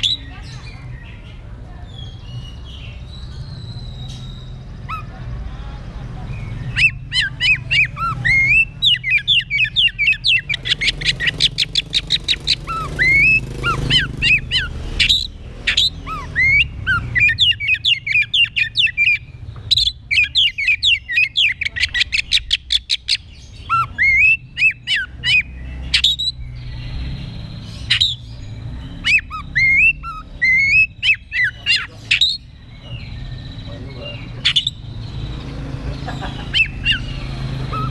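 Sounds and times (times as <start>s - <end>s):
songbird whistling song: 0.0s - 5.2s, 6.3s - 37.9s.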